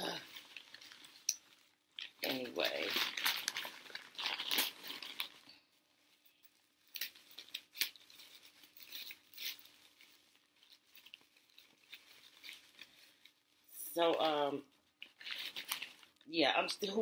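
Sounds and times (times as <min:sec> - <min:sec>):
tissue paper crinkling: 0:00.0 - 0:16.2.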